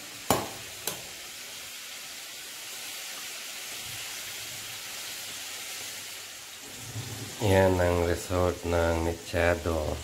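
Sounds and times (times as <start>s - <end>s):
stew sizzling: 0.0s - 10.0s.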